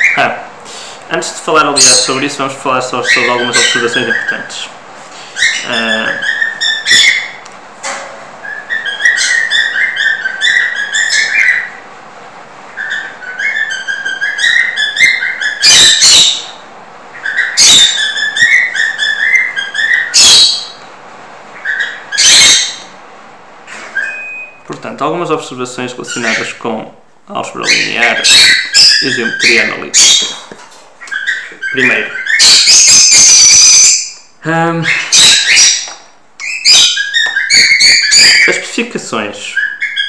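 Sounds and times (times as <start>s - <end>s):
bird chirping warbled notes: 0.0s - 0.4s, 1.5s - 7.4s, 8.4s - 11.9s, 12.7s - 20.8s, 21.5s - 23.0s, 23.9s - 40.0s
harsh bird calls: 0.0s - 7.5s, 8.3s - 11.9s, 12.6s - 23.0s, 23.7s - 40.0s.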